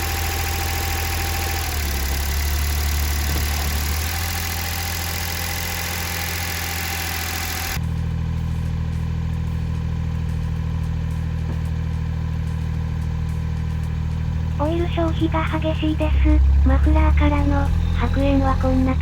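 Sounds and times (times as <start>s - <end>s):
car engine running with hiss: 0.0s - 19.0s
low idle hum: 0.0s - 19.0s.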